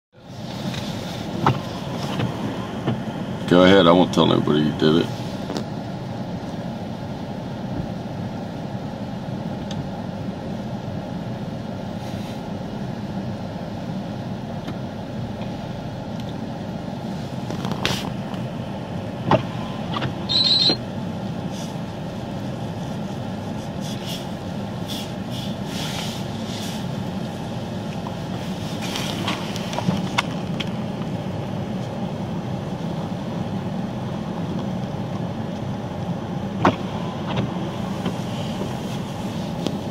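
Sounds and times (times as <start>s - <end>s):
vehicle engine running: 0.1s - 39.9s.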